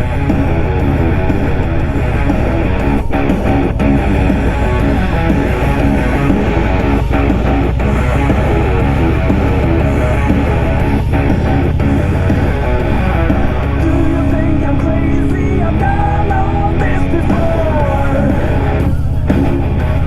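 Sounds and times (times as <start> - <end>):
motorcycle engine and road rumble: 0.0 - 20.0
rock music with electric guitar: 0.0 - 20.0.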